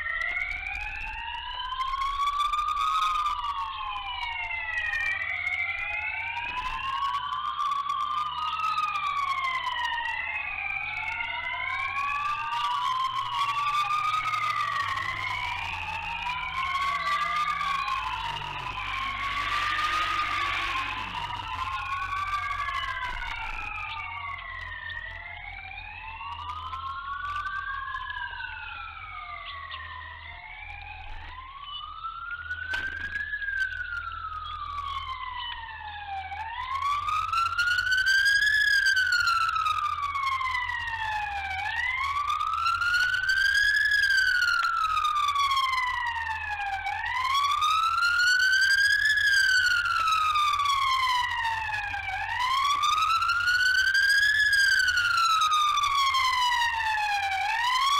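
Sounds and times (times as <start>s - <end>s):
sirens wailing: 0.0s - 57.9s.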